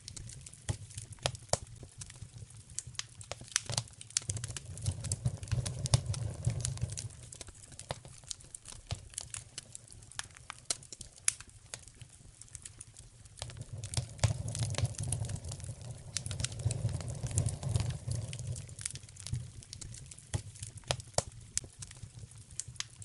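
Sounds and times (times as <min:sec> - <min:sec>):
low rumble of flames: 0:00.0 - 0:23.0
sharp pops and snaps of fire: 0:00.0 - 0:23.0
wood fire crackling: 0:00.0 - 0:23.0.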